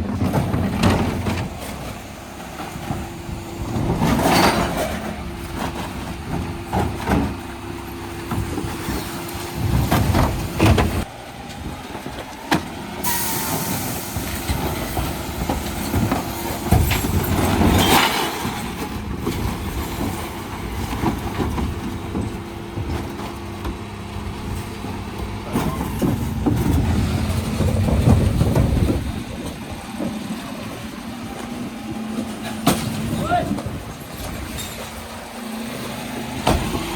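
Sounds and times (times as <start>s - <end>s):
knocks and clatter: 0.0s - 12.8s, 14.2s - 35.6s
refuse truck humming: 0.0s - 36.9s.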